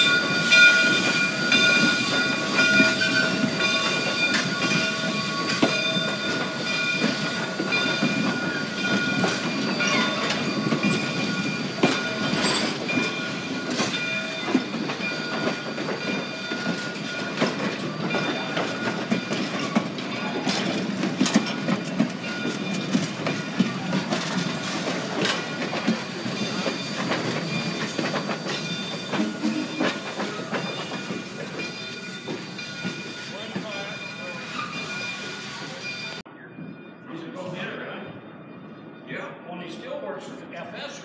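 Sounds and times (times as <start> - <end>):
wheels clicking on rail joints: 0.0 - 36.2
railroad cars rumbling: 0.0 - 41.0.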